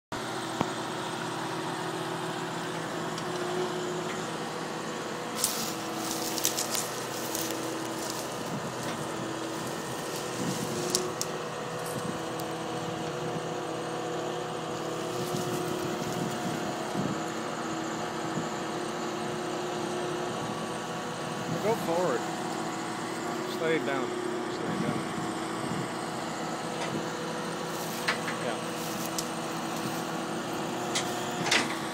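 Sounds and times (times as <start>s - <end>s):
diesel engine running: 0.1s - 31.9s.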